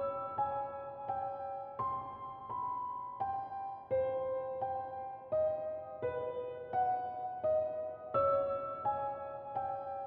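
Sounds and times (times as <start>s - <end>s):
slow solo piano: 0.0s - 10.0s.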